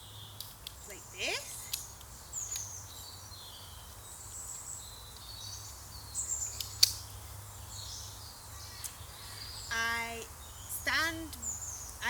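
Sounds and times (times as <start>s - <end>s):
birds chirping: 0.0s - 12.0s
faint low outdoor rumble: 0.0s - 12.0s.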